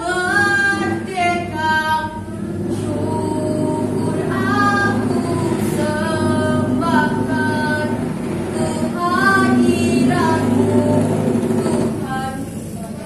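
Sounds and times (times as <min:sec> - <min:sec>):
girl reciting in sing-song voice: 0:00.0 - 0:13.0.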